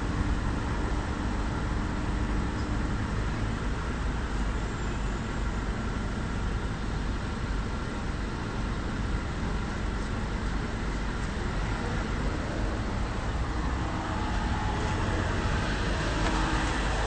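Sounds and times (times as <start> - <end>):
cars passing on street: 0.0 - 17.0.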